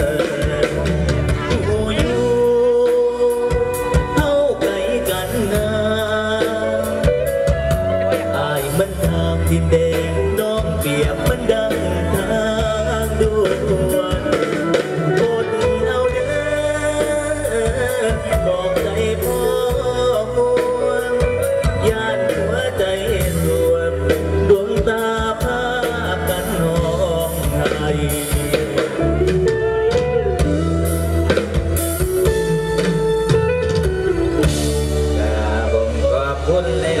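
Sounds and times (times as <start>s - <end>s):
person singing: 0.0s - 33.4s, 34.1s - 37.0s
live band through loud speakers: 0.0s - 37.0s
steady drum beat: 0.0s - 37.0s.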